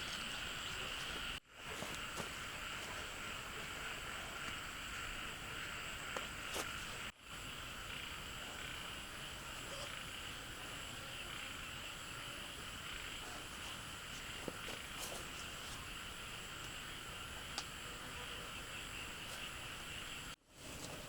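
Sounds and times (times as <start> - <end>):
frogs: 0.0 - 21.0
insects: 0.0 - 21.0.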